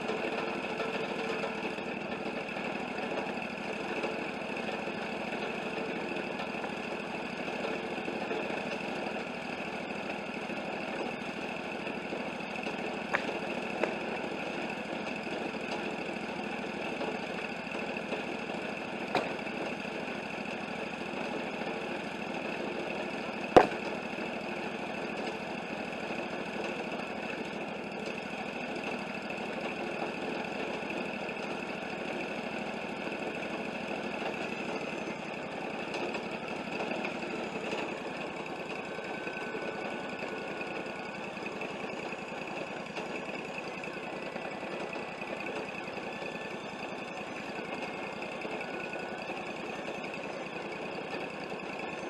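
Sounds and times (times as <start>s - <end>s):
sawmill engine running: 0.0s - 52.0s.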